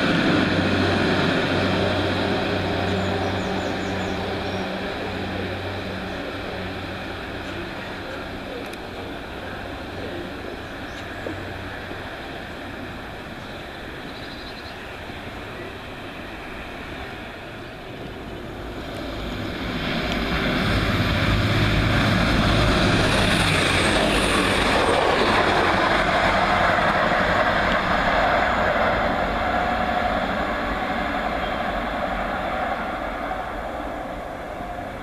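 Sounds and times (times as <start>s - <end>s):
diesel train passing at speed: 0.0s - 35.0s.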